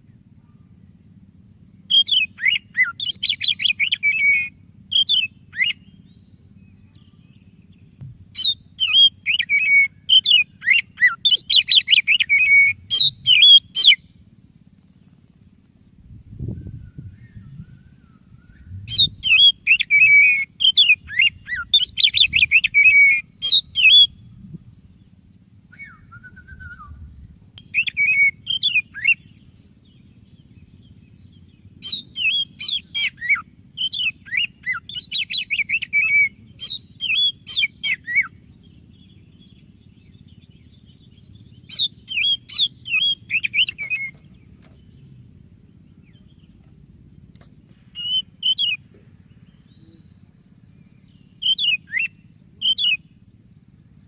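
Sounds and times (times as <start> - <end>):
bird singing whistled notes: 1.9 - 14.2, 16.1 - 45.2, 47.8 - 54.0.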